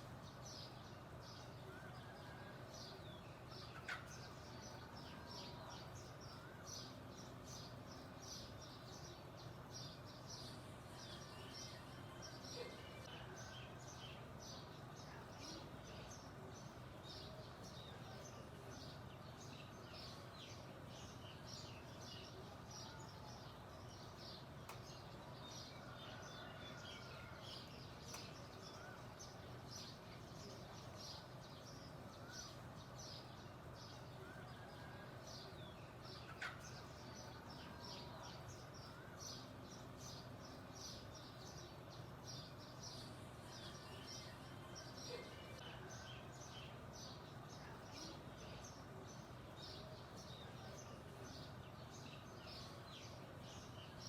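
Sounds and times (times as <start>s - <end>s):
faint steady background hum: 0.0s - 54.0s
songbirds chirping: 0.0s - 54.0s.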